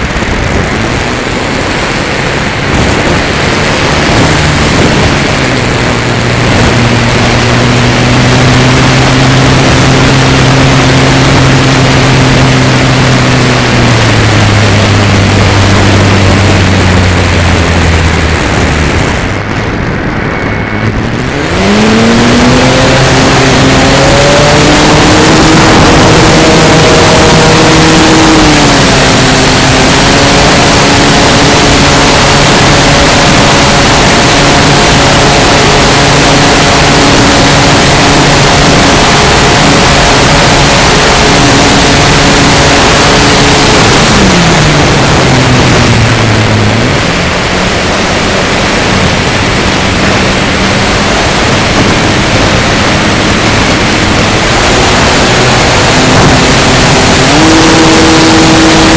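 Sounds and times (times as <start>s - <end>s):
electric motor and propeller: 0.0s - 58.9s
wind rush on microphone: 0.0s - 58.9s.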